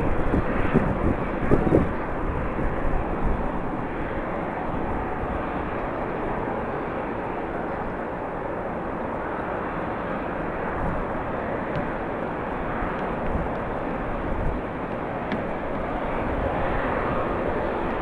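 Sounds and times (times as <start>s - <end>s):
jet engines roaring: 0.0s - 18.0s
wind gusts rumbling: 0.0s - 18.0s.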